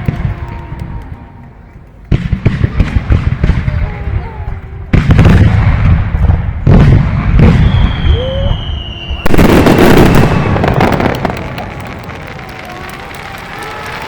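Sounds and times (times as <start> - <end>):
fireworks crackling: 0.0 - 14.0
fireworks booming: 2.1 - 14.0.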